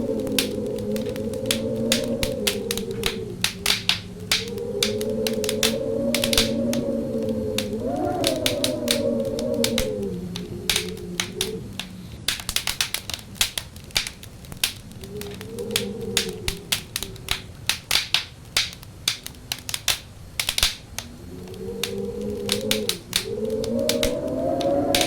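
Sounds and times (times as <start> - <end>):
wind howling: 0.0 - 25.0
wood fire crackling: 0.0 - 25.0.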